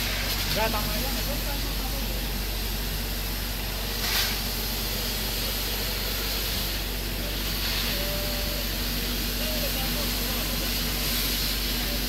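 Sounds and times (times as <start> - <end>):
hose spraying water and steam hiss: 0.0 - 12.0
low steady hum: 0.0 - 12.0.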